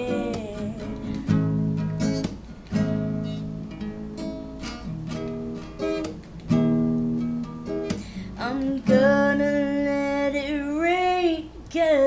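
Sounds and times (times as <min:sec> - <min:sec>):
acoustic guitar strumming: 0:00.0 - 0:11.3.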